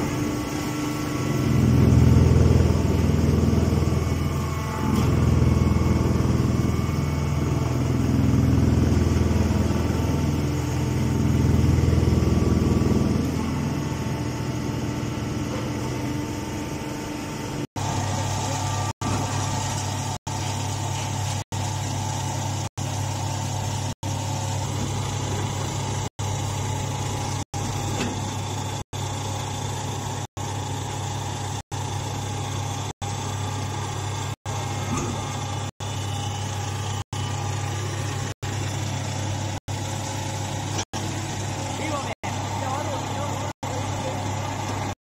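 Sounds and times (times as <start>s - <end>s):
hydraulic power unit hum: 0.0s - 45.0s.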